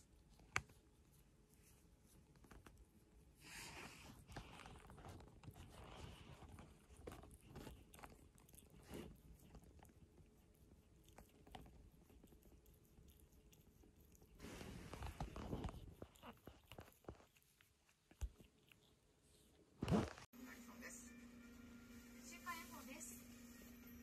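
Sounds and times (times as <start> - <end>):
kitten licking fur: 0.0 - 19.8.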